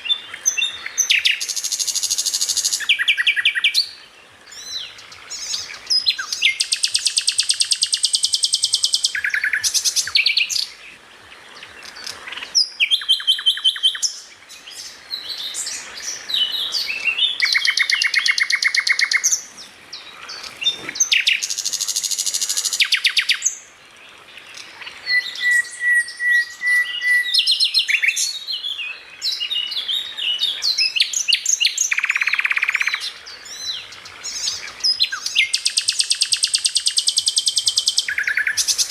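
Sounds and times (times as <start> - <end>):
songbird singing trills and chirps: 0.0 - 38.9.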